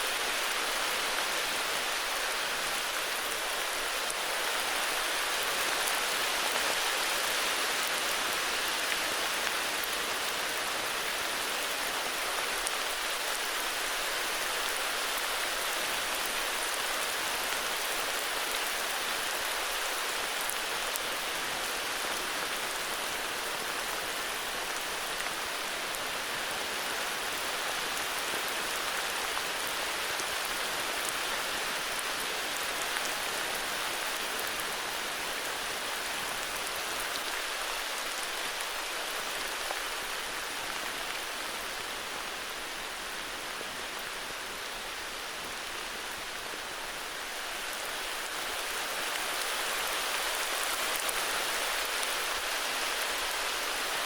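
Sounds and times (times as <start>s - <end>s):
heavy rain falling on forest: 0.0s - 54.0s.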